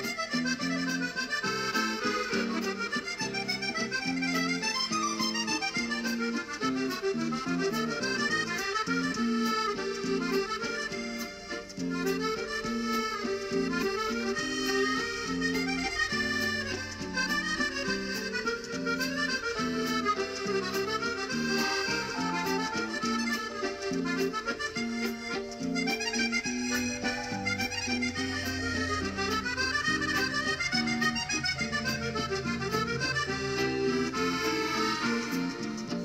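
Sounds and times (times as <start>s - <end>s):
background music with light beat: 0.0s - 36.0s.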